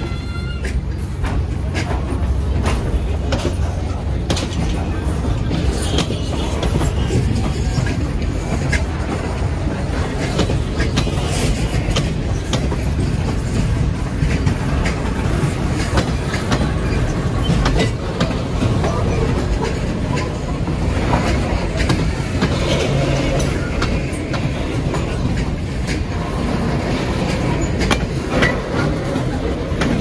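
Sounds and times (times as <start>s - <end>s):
train rumbling past: 0.0s - 30.0s
wheels clicking over rail joints: 0.1s - 30.0s.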